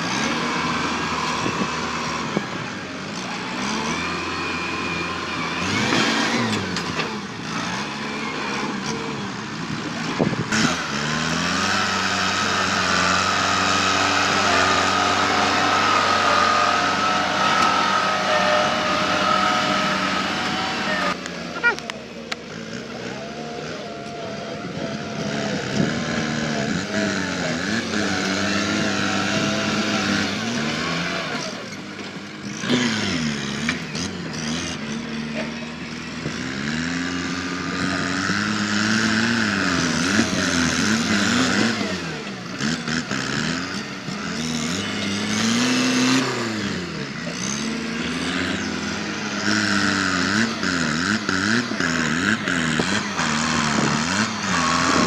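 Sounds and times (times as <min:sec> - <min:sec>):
tractor diesel engine revving: 0:00.0 - 0:55.0.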